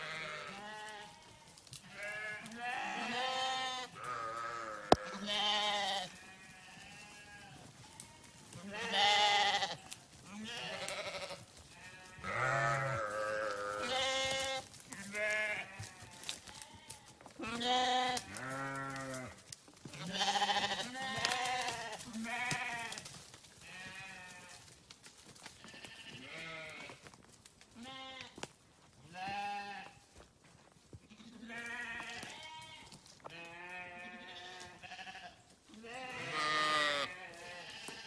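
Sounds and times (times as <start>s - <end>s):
sheep bleating: 0.0s - 24.6s, 25.6s - 27.0s, 27.8s - 28.4s, 29.1s - 30.0s, 31.1s - 38.0s.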